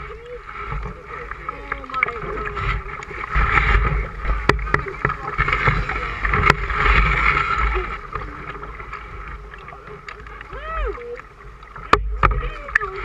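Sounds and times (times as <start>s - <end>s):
river water rushing and splashing: 0.0s - 13.0s
wind rumble on microphone: 0.0s - 13.0s.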